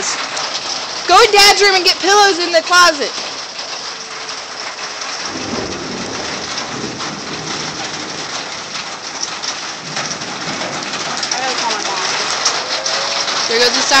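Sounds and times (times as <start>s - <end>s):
rain hissing: 0.0s - 14.0s
thunder rumbling: 0.0s - 14.0s.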